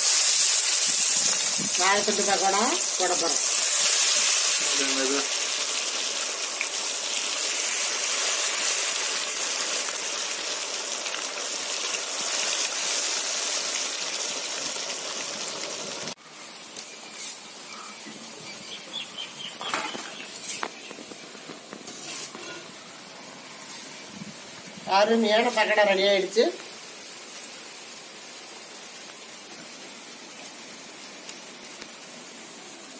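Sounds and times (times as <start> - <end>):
oil sizzling while deep-frying: 0.0 - 32.9.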